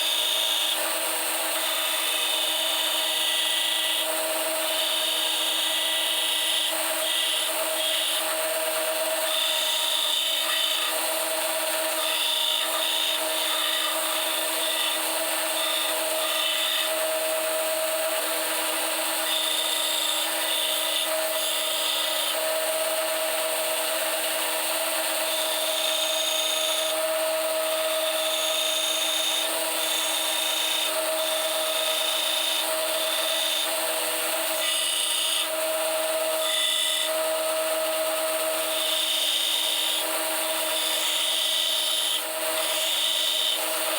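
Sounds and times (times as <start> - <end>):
electric grinder grinding steel: 0.0 - 43.9.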